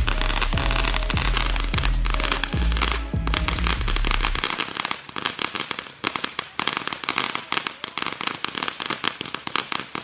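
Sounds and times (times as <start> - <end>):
firework crackling: 0.0 - 10.0.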